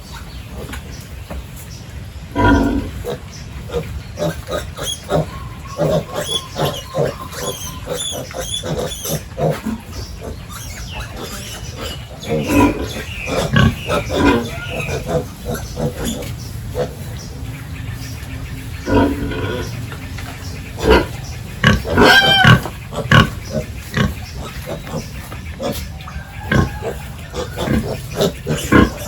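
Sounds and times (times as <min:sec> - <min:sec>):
pigs grunting and squealing: 0:02.3 - 0:17.4, 0:18.8 - 0:29.0.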